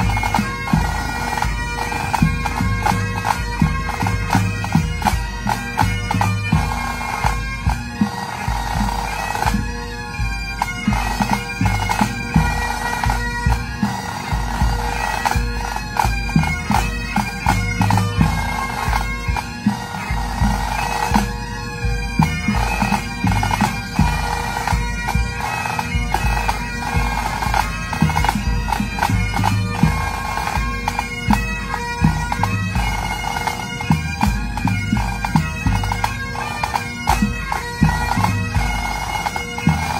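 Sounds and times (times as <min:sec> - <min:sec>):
bagpipes melody with drones: 0:00.0 - 0:39.9
pipe band drums: 0:00.0 - 0:39.9.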